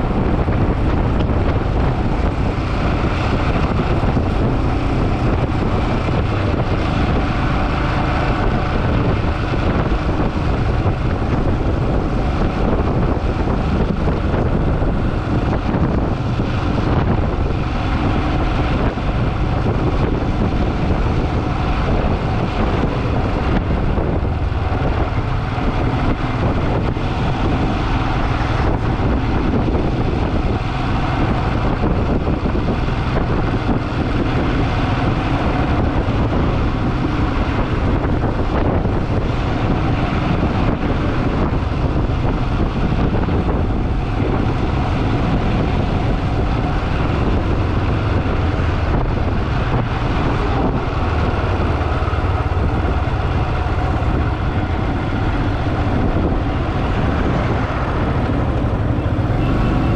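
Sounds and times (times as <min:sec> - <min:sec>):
motorcycle engine and road noise: 0:00.0 - 0:59.9.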